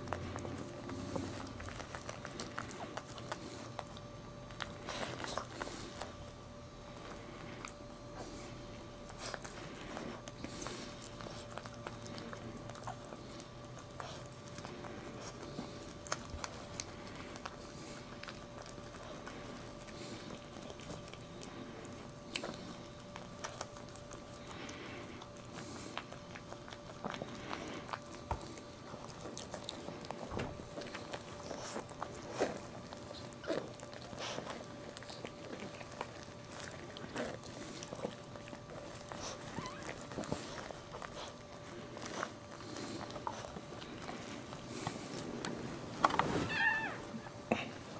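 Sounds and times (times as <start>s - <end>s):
dog licking and chewing: 0.0s - 47.9s
faint steady hum: 0.0s - 47.9s.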